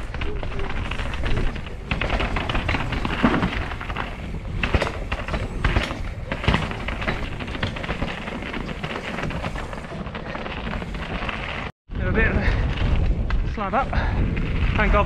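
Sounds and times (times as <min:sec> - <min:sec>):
bike knocking and clattering: 0:00.0 - 0:15.0
bike tyres crunching over rock: 0:00.0 - 0:15.0.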